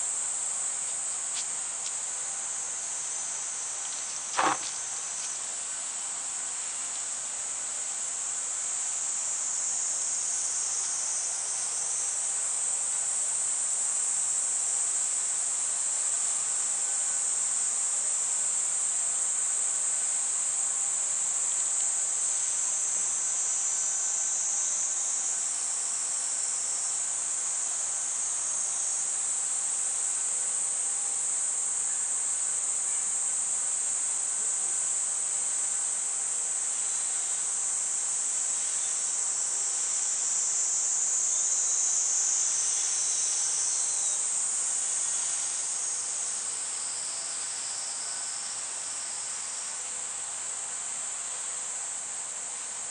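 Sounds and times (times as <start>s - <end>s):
cicadas buzzing: 0.0s - 52.9s.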